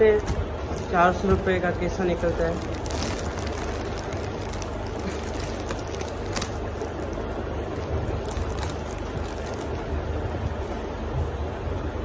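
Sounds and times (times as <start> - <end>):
plastic bag crackling: 0.0 - 10.0
low background rumble: 0.0 - 12.0.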